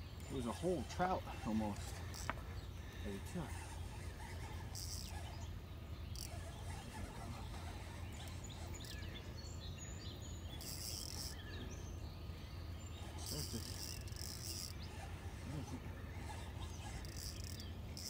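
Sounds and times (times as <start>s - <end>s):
fishing reel drag buzzing: 0.1s - 9.3s, 10.4s - 11.6s, 13.0s - 18.0s.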